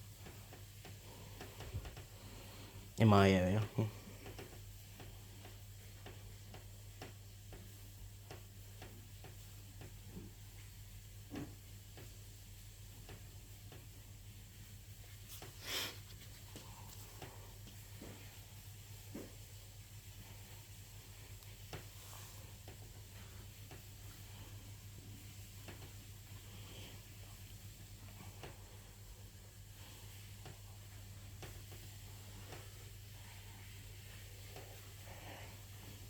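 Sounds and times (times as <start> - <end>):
ceiling fan ticking: 0.0 - 15.5, 16.5 - 36.0
ceiling fan humming: 0.0 - 36.0.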